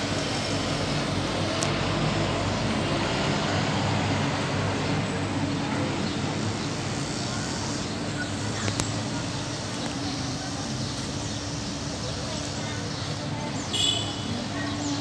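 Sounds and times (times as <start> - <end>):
low hum of distant traffic: 0.0 - 15.0.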